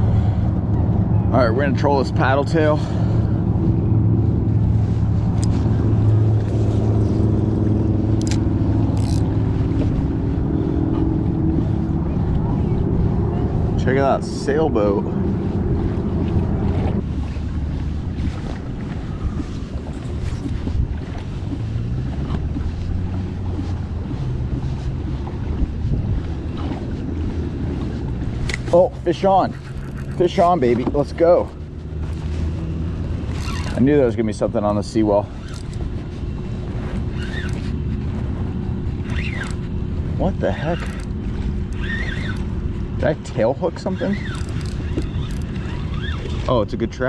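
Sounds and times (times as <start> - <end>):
kayak drive mechanical hum: 0.0 - 47.0
wind buffeting microphone: 0.0 - 47.0.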